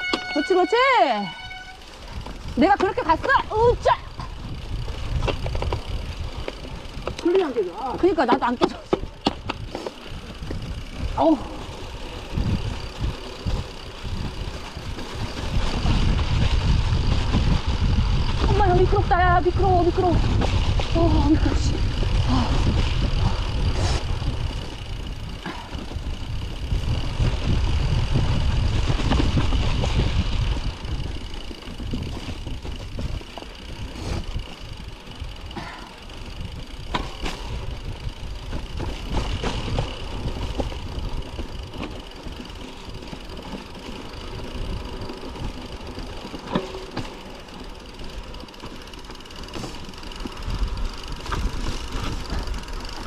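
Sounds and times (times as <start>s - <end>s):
bike rattling: 0.0s - 53.0s
wind rumble on microphone: 2.0s - 7.3s, 9.0s - 46.3s.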